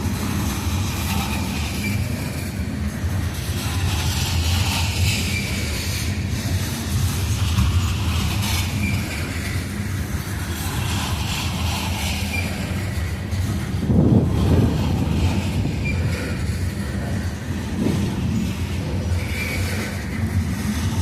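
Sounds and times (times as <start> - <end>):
high wheel squeaks: 0.0 - 21.0
train wheels rumbling on rail: 0.0 - 21.0.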